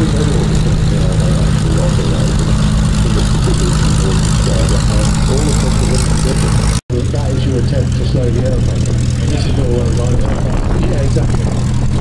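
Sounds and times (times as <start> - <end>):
piston aero engine droning: 0.0 - 12.0.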